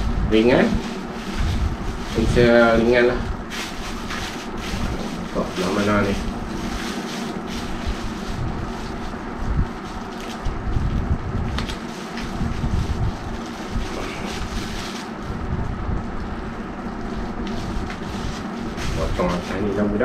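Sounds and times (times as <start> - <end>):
plastic wrapping crinkling: 0.3 - 20.0.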